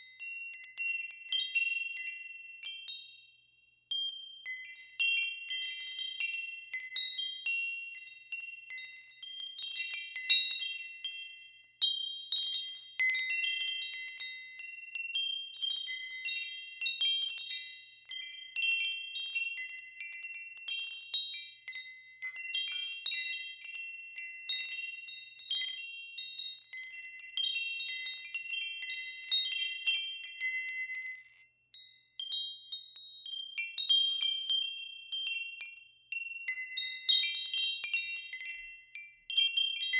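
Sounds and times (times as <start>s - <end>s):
wind chimes ringing: 0.0s - 3.3s, 3.9s - 39.9s.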